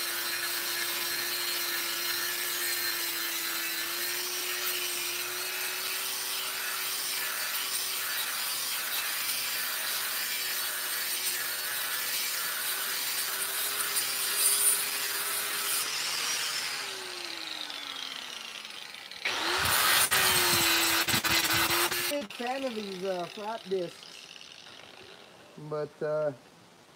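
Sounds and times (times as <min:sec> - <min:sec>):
power tool motor whine: 0:00.0 - 0:25.4.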